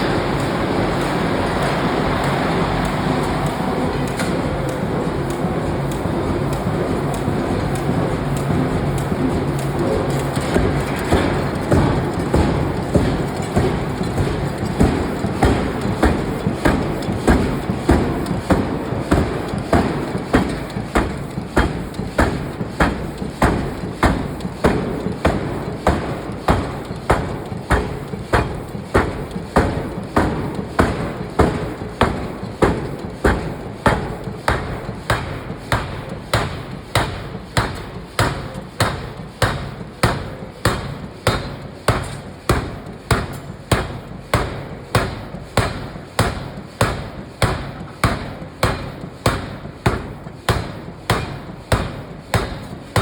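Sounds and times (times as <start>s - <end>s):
hammer striking steel: 2.8s - 53.0s.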